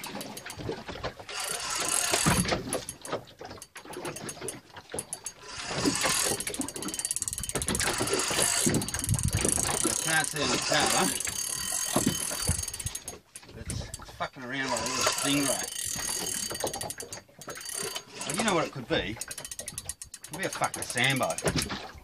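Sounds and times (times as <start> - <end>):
fishing reel clicking rapidly: 0.0 - 0.7, 1.3 - 21.7.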